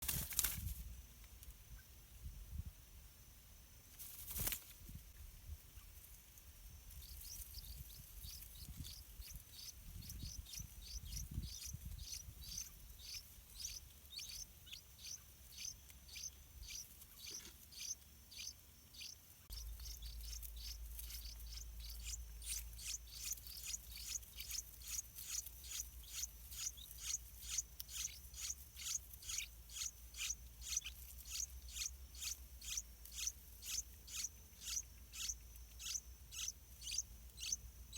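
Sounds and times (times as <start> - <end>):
nestlings begging calls: 7.0 - 37.7.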